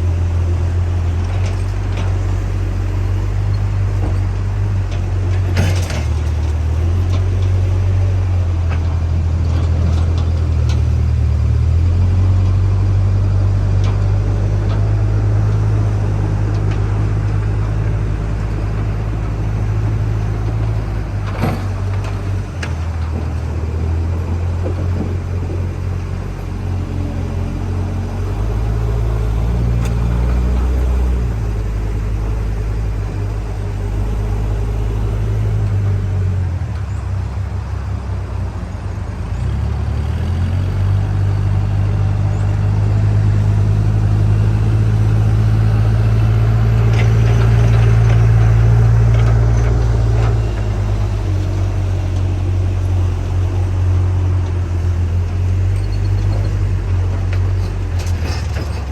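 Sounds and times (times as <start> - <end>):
diesel engine revving up and down: 0.0 - 58.9.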